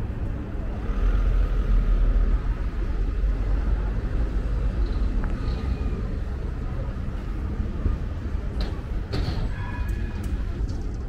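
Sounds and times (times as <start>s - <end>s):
vehicle passing with low rumble: 0.0s - 9.1s.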